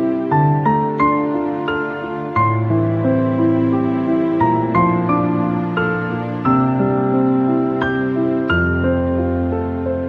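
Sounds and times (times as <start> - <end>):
instrumental music with held chords: 0.0 - 10.0.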